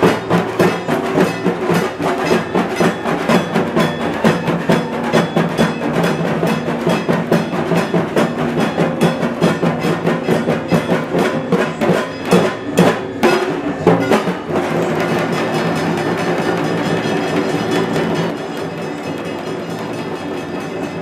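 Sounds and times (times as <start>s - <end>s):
barrel drums beaten with sticks: 0.0s - 21.0s.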